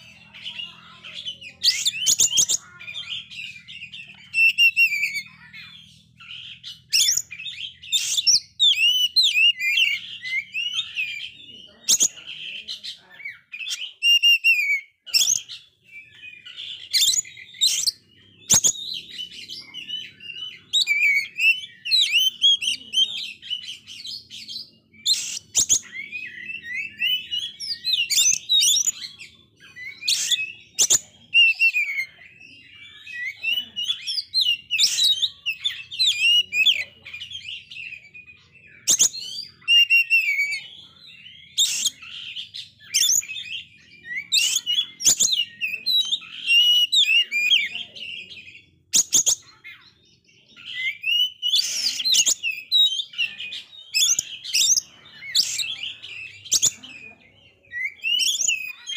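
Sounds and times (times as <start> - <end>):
bird singing whistles and chatter: 0.0 - 58.9.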